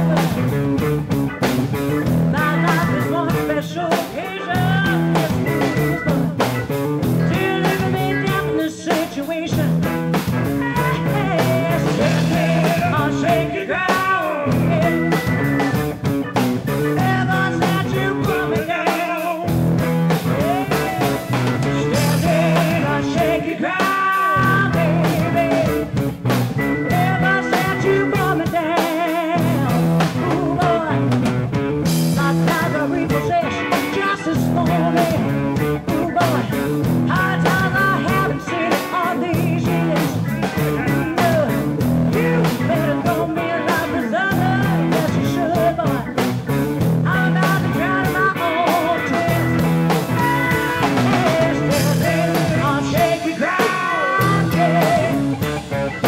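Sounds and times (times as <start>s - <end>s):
drum kit beat: 0.0s - 56.0s
electric guitars: 0.0s - 56.0s
woman singing: 2.3s - 6.4s, 7.2s - 15.8s, 16.7s - 19.5s, 20.2s - 25.9s, 26.8s - 31.2s, 32.1s - 46.2s, 47.0s - 56.0s.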